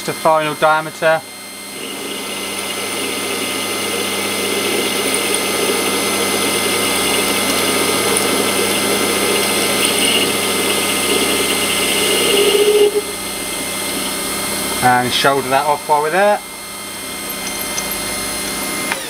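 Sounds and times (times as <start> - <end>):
lathe motor running: 0.0 - 19.0
lathe tool cutting metal bar: 0.2 - 19.0.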